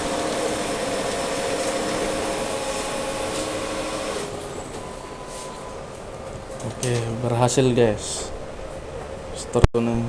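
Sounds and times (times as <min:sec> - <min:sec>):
atm whirring: 0:00.0 - 0:10.0.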